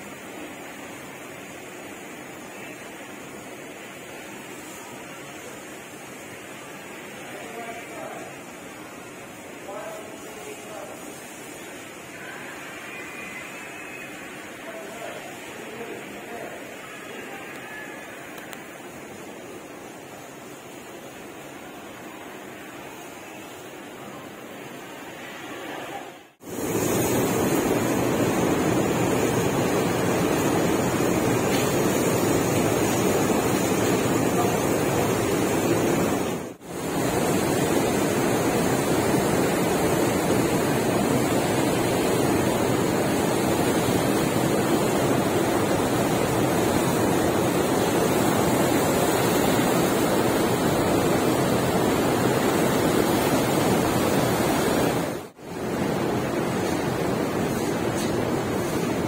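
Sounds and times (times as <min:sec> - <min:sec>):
churning water rushing: 0:00.0 - 0:59.0.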